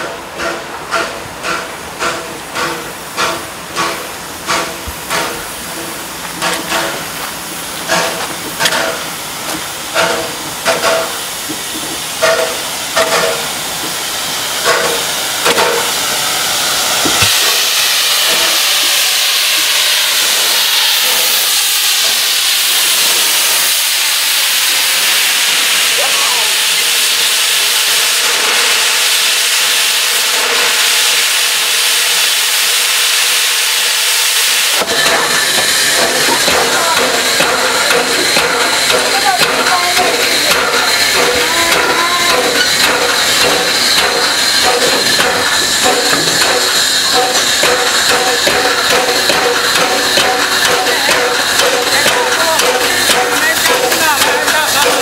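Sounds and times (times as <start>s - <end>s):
steam locomotive knocks: 0.0s - 23.7s, 34.6s - 55.0s
steam hissing: 0.0s - 55.0s.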